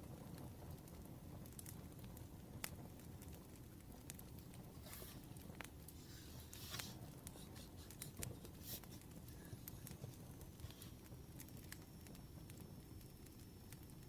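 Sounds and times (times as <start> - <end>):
fire pops and snaps: 0.0 - 14.0
wood fire crackling: 0.0 - 14.0.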